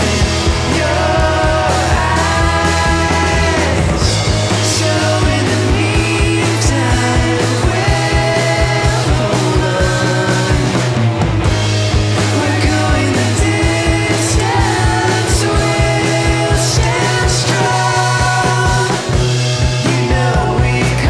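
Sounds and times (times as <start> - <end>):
bass guitar: 0.0 - 21.0
electric guitars: 0.0 - 21.0
steady drum beat: 0.0 - 21.0.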